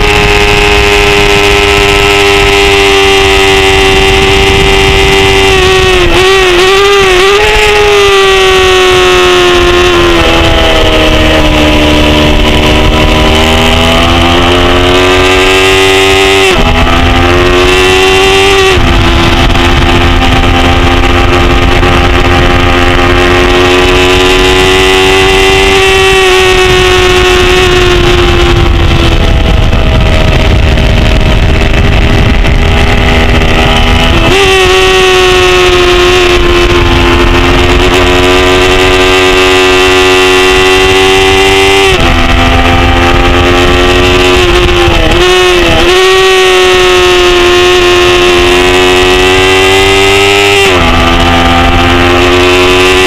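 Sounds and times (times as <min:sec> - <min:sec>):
motorcycle engine at high revs: 0:00.0 - 0:53.0
wind rush: 0:00.0 - 0:53.0.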